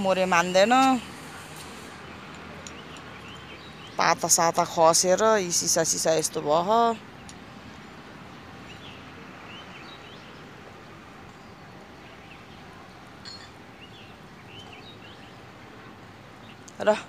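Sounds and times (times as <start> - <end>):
open air hiss: 0.0 - 17.0.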